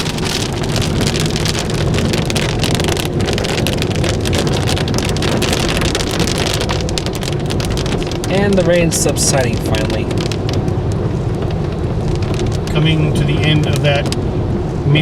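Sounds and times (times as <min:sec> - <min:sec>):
rain drumming on car roof: 0:00.0 - 0:15.0
tyre and road rumble: 0:00.0 - 0:15.0.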